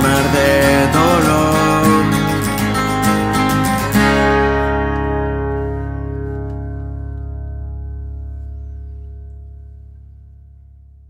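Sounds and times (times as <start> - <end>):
acoustic guitar chord ringing: 0.0 - 10.8.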